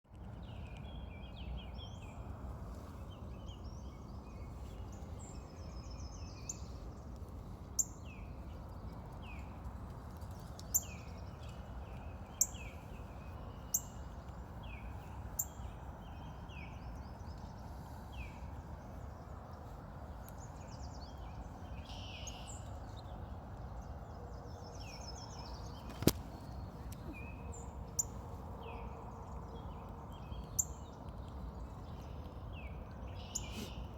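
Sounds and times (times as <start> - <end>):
small birds chirping: 0.1 - 33.9
steady low rumble: 0.1 - 33.9.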